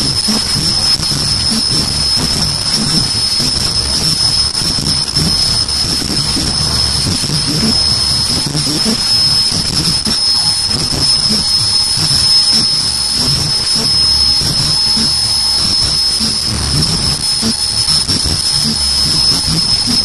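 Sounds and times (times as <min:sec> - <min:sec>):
machine high-pitched whine: 0:00.0 - 0:20.0.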